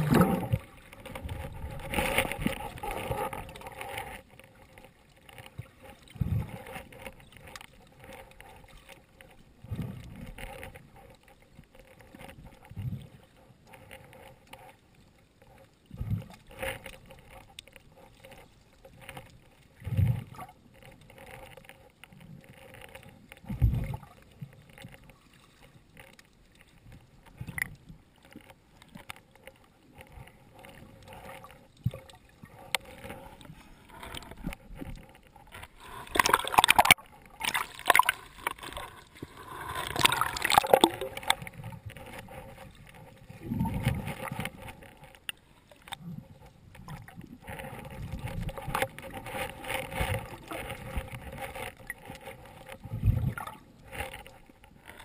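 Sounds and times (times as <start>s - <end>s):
muffled underwater water movement: 0.0s - 55.0s.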